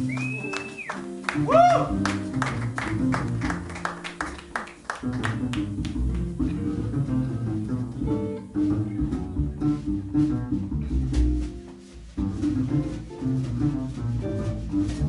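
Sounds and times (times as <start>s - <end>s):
drums: 0.0s - 3.9s, 5.3s - 15.0s
jazz guitar lead: 0.0s - 15.0s
walking double bass: 0.0s - 15.0s.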